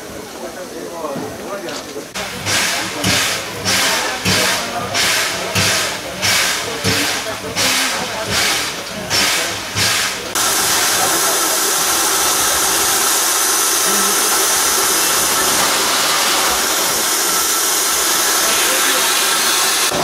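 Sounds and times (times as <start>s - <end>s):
rhythmic hissing steam puffs: 0.0s - 20.0s
loud hiss of escaping steam: 2.2s - 20.0s.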